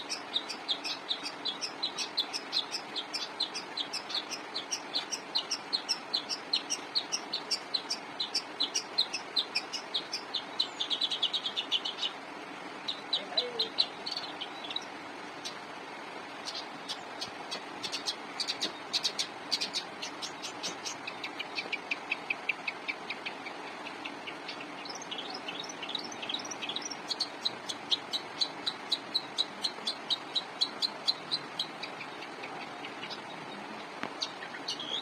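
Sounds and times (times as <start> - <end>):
bird singing high chirps: 0.0 - 12.2, 12.9 - 15.6, 16.4 - 35.0.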